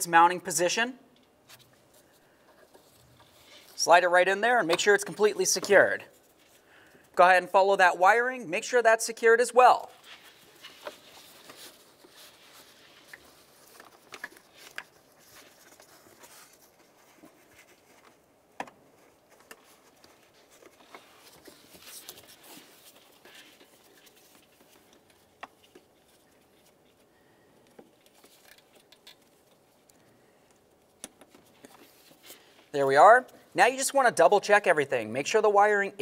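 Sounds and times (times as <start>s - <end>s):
gloved hands rustling wiring: 1.2s - 7.2s, 9.6s - 33.8s.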